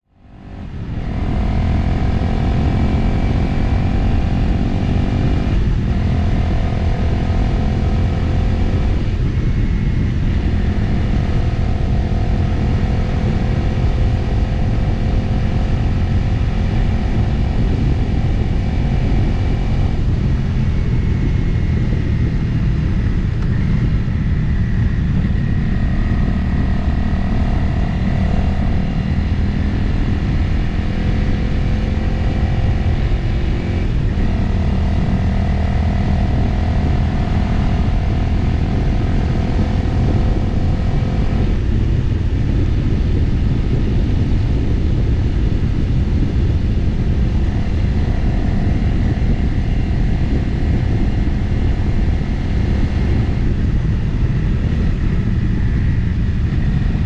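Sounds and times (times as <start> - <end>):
wind rush over microphone: 0.0 - 57.0
motorcycle engine running: 0.1 - 57.0.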